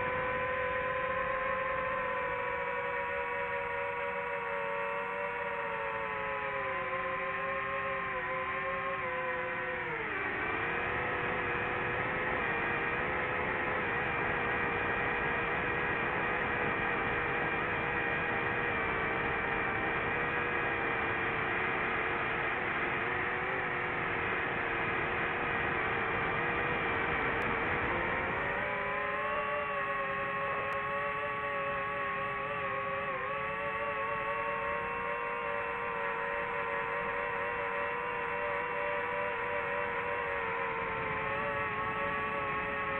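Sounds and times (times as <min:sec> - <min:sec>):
drone propellers whining: 0:00.0 - 0:42.9.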